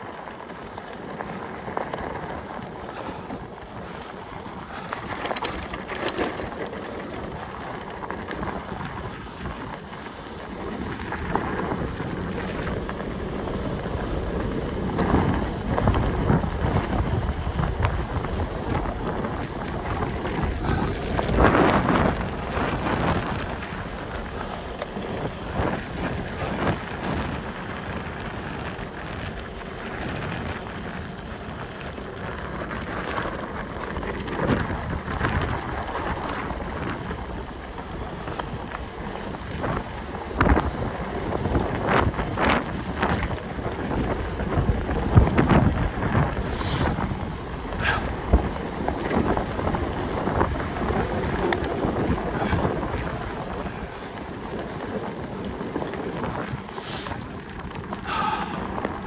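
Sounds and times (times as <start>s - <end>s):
tyres rumbling on road: 0.0s - 59.0s
wind buffeting microphone: 0.0s - 59.0s.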